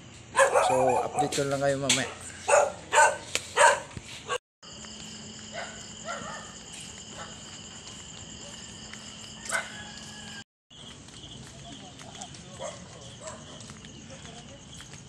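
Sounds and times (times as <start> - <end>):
night insects trilling: 0.0 - 3.7, 4.6 - 15.0.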